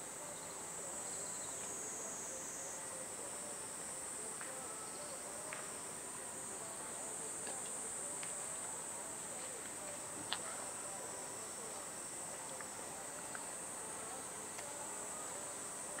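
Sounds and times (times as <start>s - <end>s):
cicadas singing: 0.0s - 16.0s.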